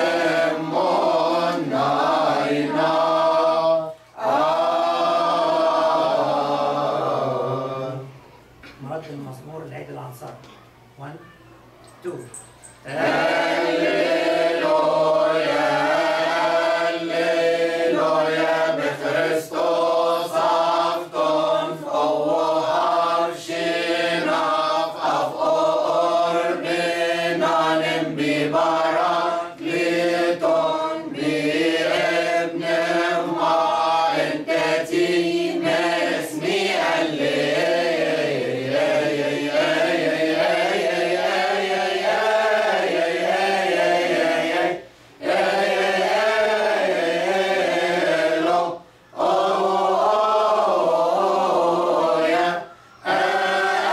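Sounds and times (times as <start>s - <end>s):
choir chanting a hymn: 0.0s - 8.2s, 12.8s - 53.9s.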